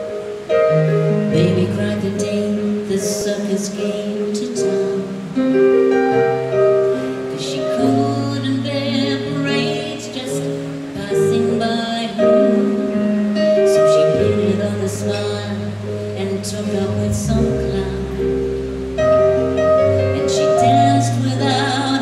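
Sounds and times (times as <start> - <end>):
woman singing: 1.2 - 5.7, 6.8 - 18.7, 19.9 - 22.0.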